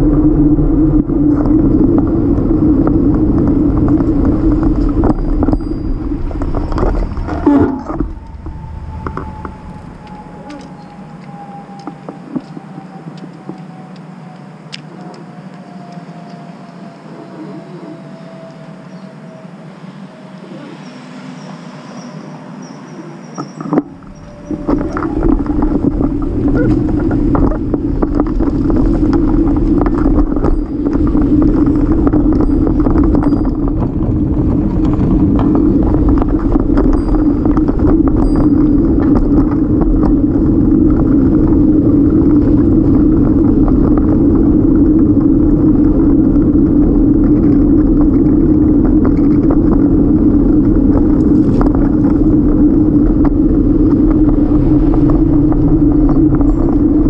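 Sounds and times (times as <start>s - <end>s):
tyre rumble on pavement: 0.0s - 12.8s, 23.8s - 57.0s
wind noise on microphone: 0.0s - 22.7s, 23.3s - 57.0s.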